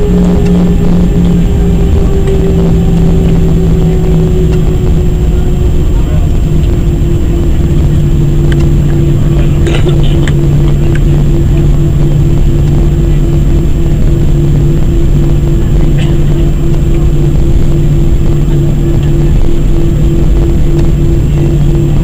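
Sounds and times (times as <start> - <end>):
jet engines droning in cabin: 0.0 - 22.0.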